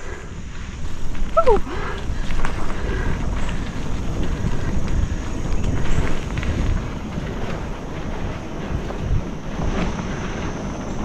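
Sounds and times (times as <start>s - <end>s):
bike rolling on dirt trail: 0.0s - 11.0s
wind rumbling on microphone: 0.0s - 11.0s.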